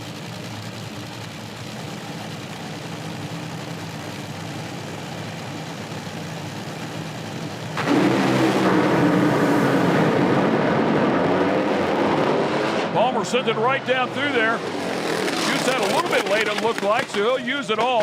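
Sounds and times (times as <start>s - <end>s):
racing car engines rumbling: 0.0s - 18.0s.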